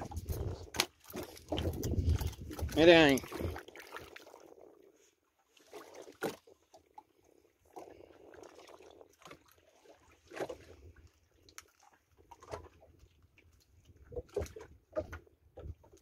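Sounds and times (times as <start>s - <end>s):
water lapping against a boat: 0.0s - 16.0s.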